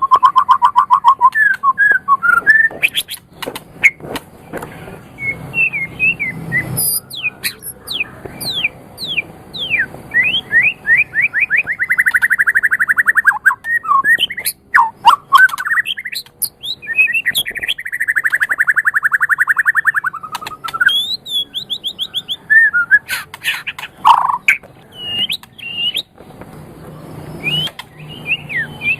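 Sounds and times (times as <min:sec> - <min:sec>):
bird singing whistles and trills: 0:00.0 - 0:04.0, 0:05.2 - 0:26.1, 0:27.0 - 0:28.9.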